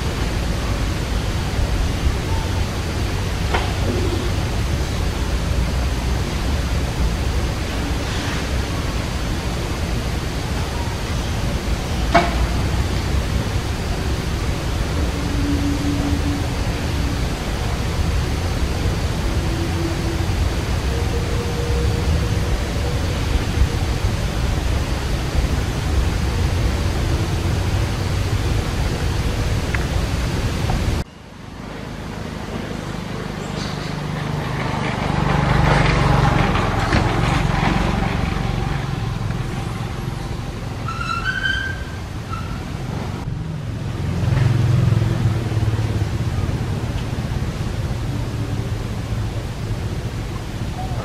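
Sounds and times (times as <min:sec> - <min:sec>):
rumble: 0:00.0 - 0:32.9, 0:34.0 - 0:51.0
low rumble with hiss: 0:00.0 - 0:51.0.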